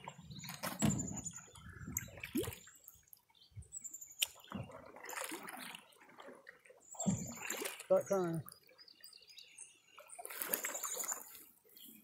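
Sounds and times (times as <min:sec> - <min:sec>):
paddle splashes and drips: 0:00.0 - 0:12.0.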